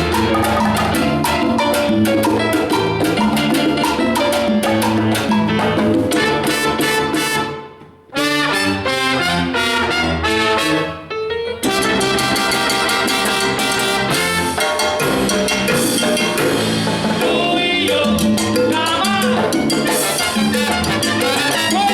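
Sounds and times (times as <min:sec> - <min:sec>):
salsa band playing live: 0:00.0 - 0:21.9.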